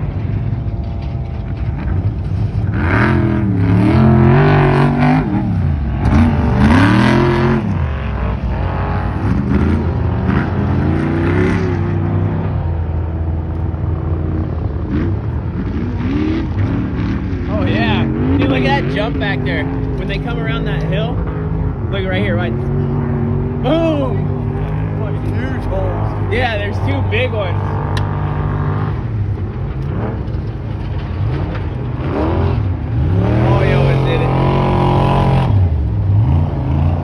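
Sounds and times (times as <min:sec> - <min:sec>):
truck engines revving hard: 0:00.0 - 0:37.0.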